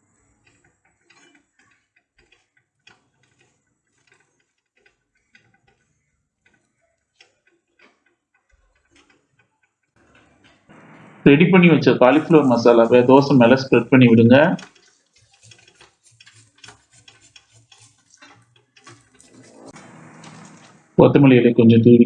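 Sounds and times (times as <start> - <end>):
faint clicks and taps: 0.0 - 10.9, 12.2 - 21.0.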